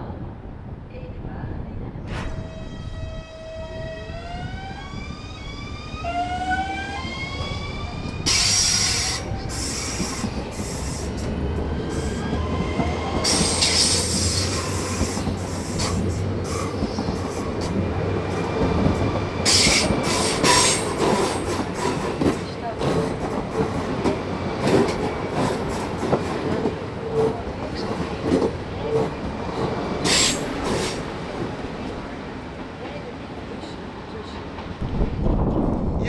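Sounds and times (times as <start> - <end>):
train rattling: 1.6 - 36.0
train wheels running on rails: 2.0 - 35.8.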